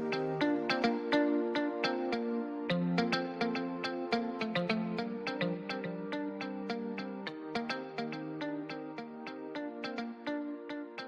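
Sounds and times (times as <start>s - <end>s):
background music melody: 0.0s - 11.0s.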